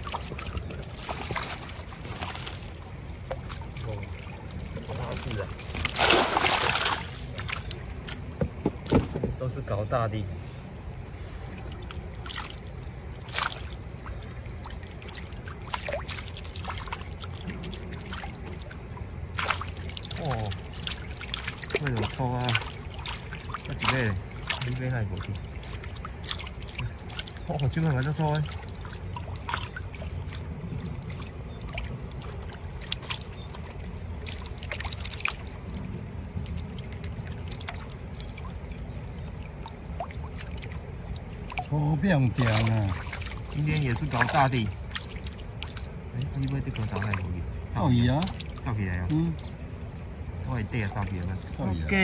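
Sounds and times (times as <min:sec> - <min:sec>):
fish splashing in a net: 0:00.0 - 0:08.9, 0:11.0 - 0:51.6
steady low rumble: 0:00.0 - 0:52.0
water trickling: 0:00.0 - 0:52.0.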